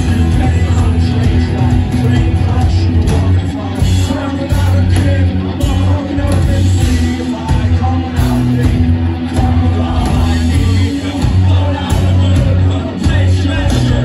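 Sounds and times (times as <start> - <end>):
loud live rock band: 0.0 - 14.0.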